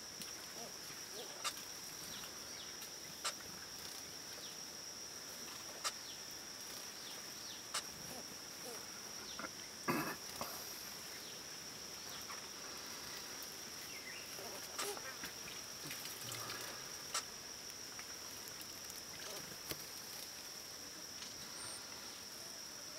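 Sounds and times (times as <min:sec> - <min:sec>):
insect drone: 0:00.0 - 0:22.9
rustle: 0:00.0 - 0:22.9.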